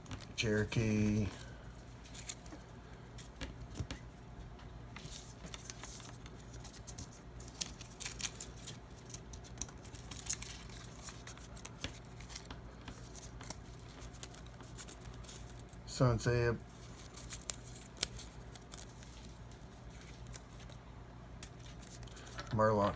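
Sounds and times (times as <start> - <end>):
paper slips clicking and rustling: 0.0 - 2.6, 4.9 - 15.8, 16.7 - 20.8, 21.4 - 22.5
faint steady hum: 0.0 - 22.9.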